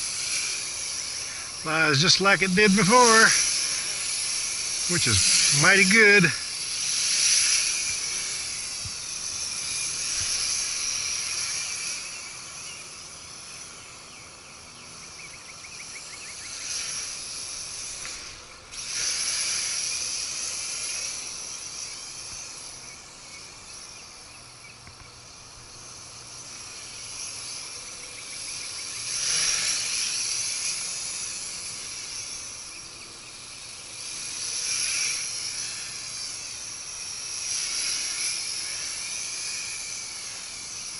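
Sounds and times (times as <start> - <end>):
toy quadcopter buzzing whine: 0.0 - 40.9.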